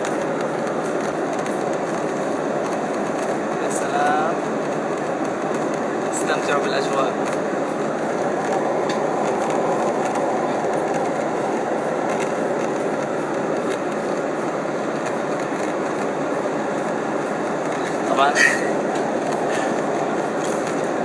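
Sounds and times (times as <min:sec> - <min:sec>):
airliner cabin engine hiss: 0:00.0 - 0:21.0.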